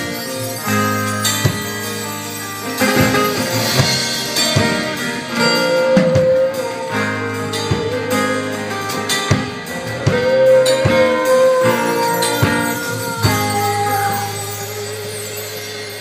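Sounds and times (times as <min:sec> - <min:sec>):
reggae band playing: 0:00.0 - 0:16.0.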